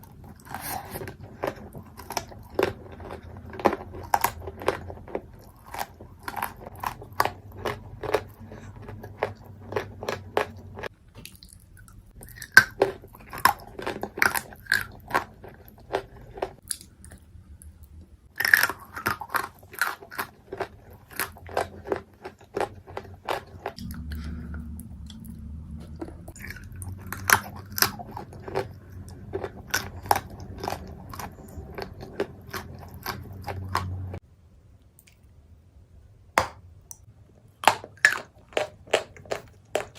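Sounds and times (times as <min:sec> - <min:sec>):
clay being chewed with crunches: 0:00.0 - 0:34.2, 0:36.9 - 0:39.9.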